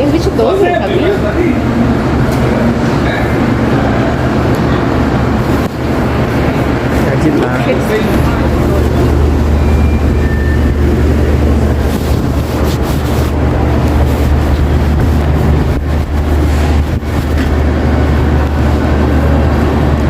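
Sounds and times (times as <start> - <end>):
indistinct store noise: 0.0 - 20.0
steady low hum: 0.0 - 20.0.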